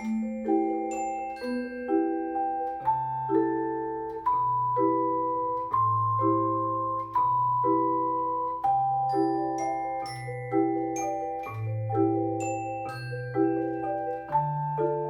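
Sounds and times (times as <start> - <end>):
percussion ensemble playing waltz: 0.0 - 15.0.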